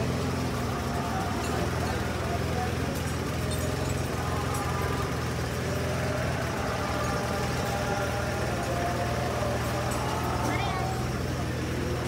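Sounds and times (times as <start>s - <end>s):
faint voices: 0.0s - 12.0s
low engine hum: 0.0s - 12.0s.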